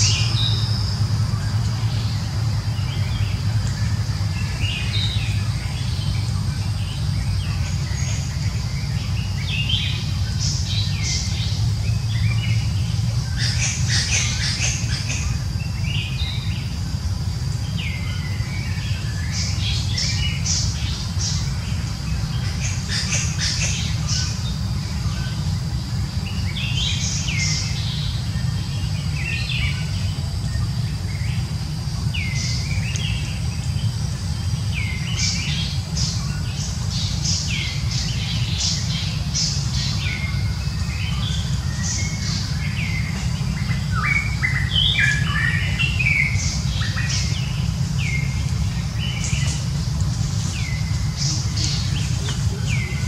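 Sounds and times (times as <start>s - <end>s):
birds chirping: 0.0s - 53.0s
low rumble: 0.0s - 53.0s.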